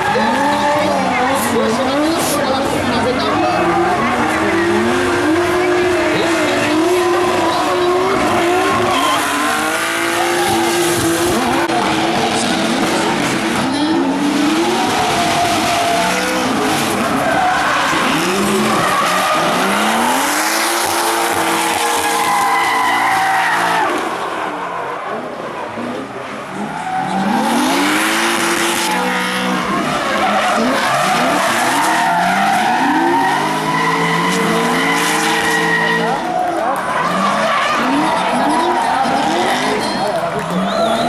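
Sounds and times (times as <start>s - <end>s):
tyres squealing: 0.0s - 24.2s, 26.5s - 41.0s
car engine revving hard: 0.0s - 41.0s.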